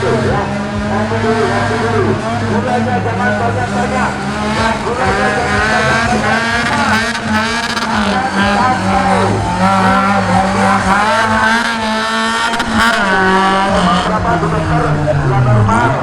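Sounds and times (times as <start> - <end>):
low drone: 0.0 - 16.0
off-road vehicle engines revving: 0.0 - 16.0
voices: 0.0 - 16.0.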